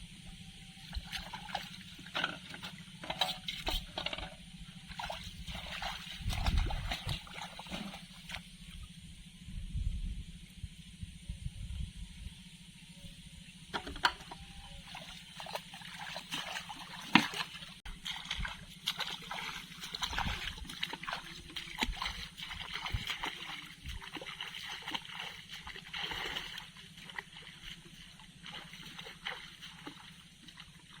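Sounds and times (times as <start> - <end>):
steady low hum: 0.0 - 31.0
water splashing and sloshing: 0.7 - 9.0, 13.8 - 31.0.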